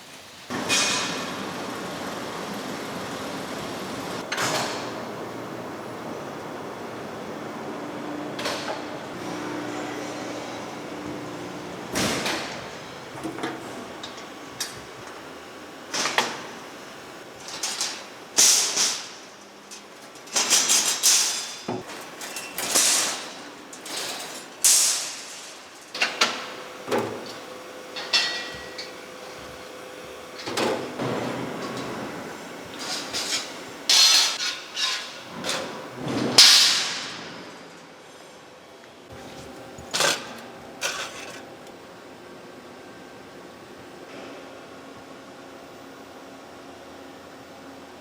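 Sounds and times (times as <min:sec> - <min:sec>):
faint machine hum: 0:00.0 - 0:48.0.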